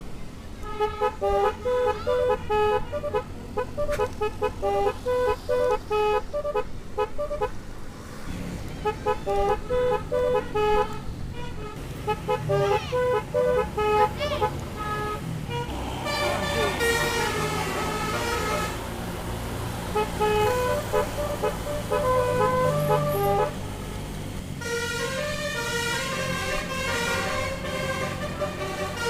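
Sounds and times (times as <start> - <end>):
musical horns playing a melody: 0.6 - 7.6, 8.8 - 29.0.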